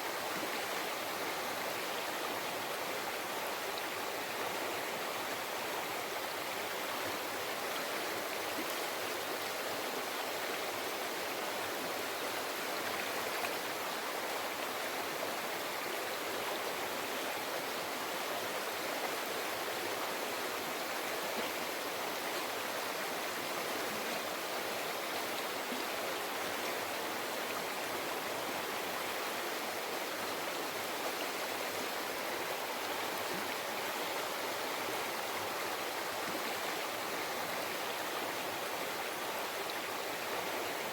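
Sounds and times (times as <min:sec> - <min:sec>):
river water babbling over rocks: 0:00.0 - 0:40.9.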